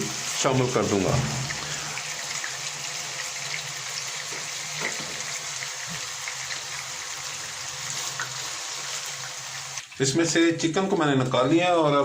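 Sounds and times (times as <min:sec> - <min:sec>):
chicken sizzling in hot oil: 0:00.0 - 0:10.2.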